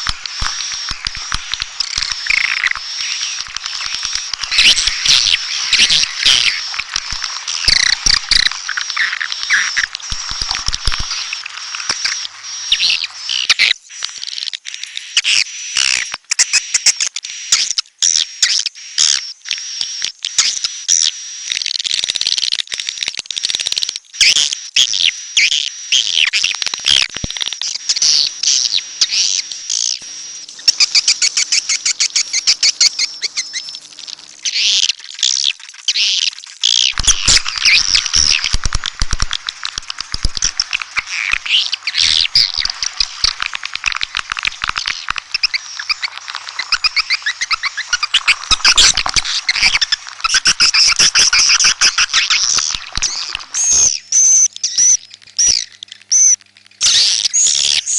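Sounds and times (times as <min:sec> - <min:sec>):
swiftlets chirping and twittering: 0:00.0 - 0:13.8, 0:24.2 - 0:57.9.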